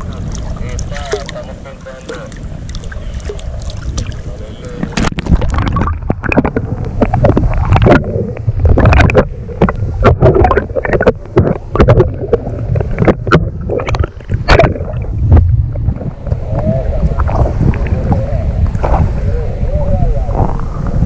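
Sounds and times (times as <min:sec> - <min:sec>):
muffled underwater sloshing: 0:00.0 - 0:21.0.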